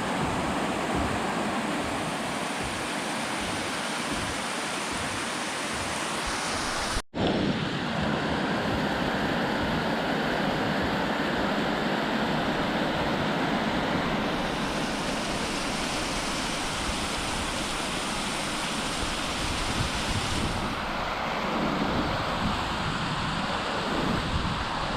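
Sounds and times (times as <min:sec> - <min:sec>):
water rushing beneath ice: 0:00.0 - 0:24.9.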